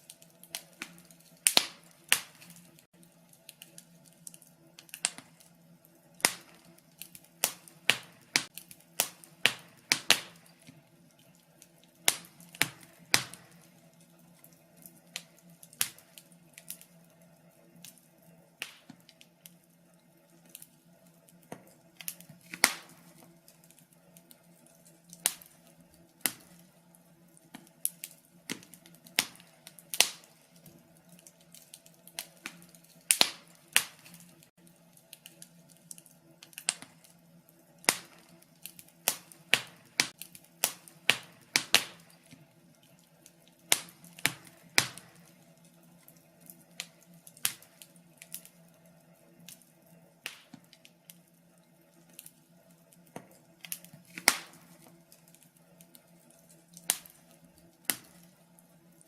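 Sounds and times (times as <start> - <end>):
fire crackling and popping: 0.0 - 59.0
low murmur of flames: 0.0 - 59.0.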